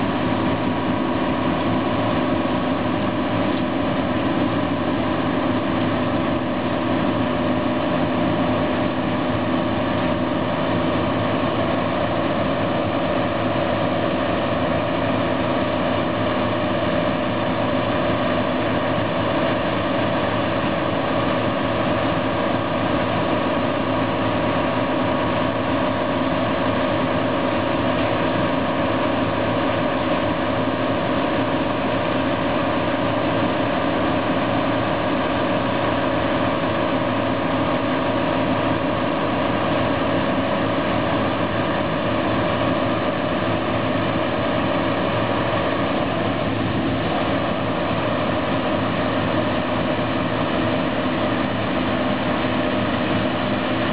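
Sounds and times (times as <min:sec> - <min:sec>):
combine harvester drone: 0:00.0 - 0:53.9.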